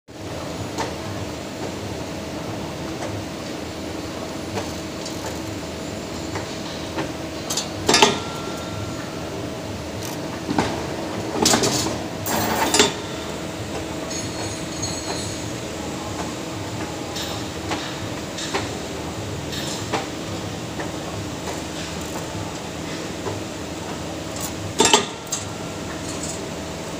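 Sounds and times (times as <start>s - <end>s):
machine electric hum: 0.1s - 26.9s.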